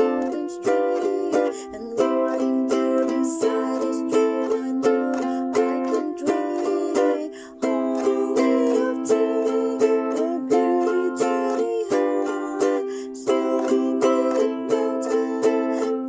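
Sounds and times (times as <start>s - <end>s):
strummed string music with beat: 0.0s - 16.0s.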